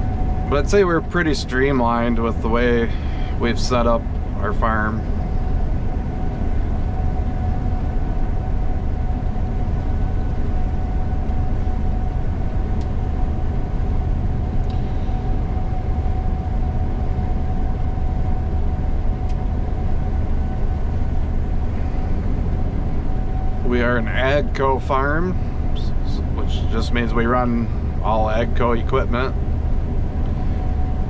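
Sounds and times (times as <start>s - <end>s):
combine harvester rumble and whine: 0.0s - 31.0s.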